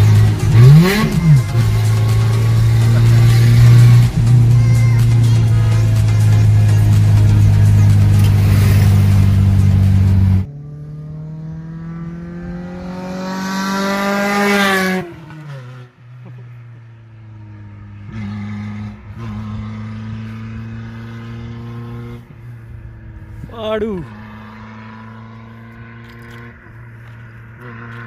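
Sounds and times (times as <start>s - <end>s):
car engine droning and revving: 0.0s - 28.0s.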